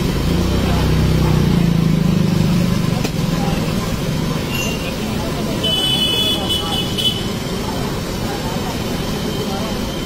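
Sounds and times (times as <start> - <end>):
traffic engine hum: 0.0 - 10.0.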